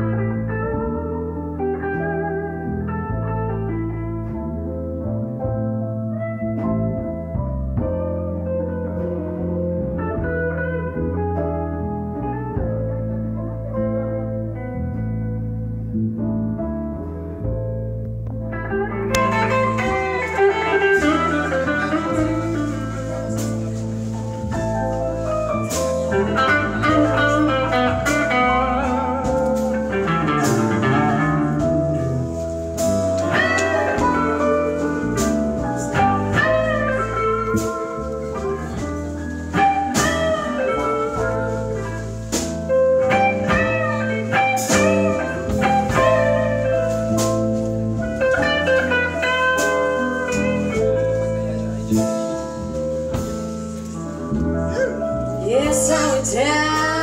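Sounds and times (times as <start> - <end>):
blues band playing: 0.0 - 57.0
electric guitar lead: 0.0 - 57.0.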